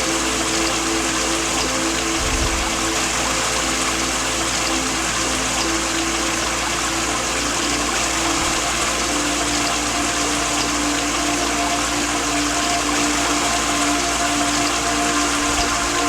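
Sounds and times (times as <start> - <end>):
slow melody: 0.0 - 16.0
waterfall rushing: 0.0 - 16.0.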